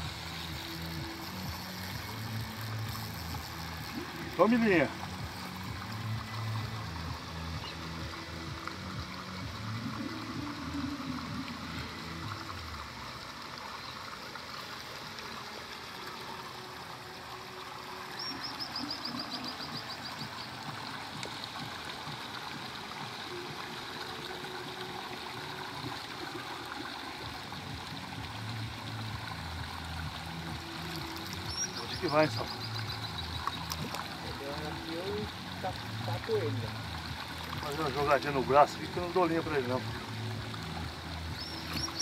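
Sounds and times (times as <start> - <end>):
running water rushing: 0.0 - 42.0.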